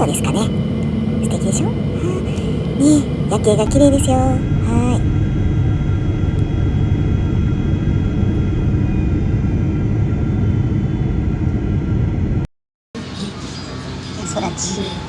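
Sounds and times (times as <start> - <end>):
faint high whines: 0.0 - 11.8, 13.0 - 15.0.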